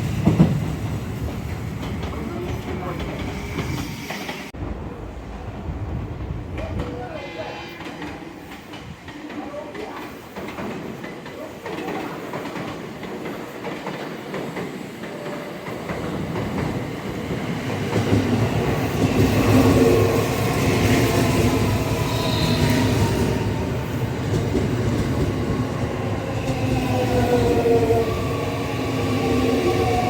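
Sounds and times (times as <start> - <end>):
electric train running on rails: 0.0 - 30.0.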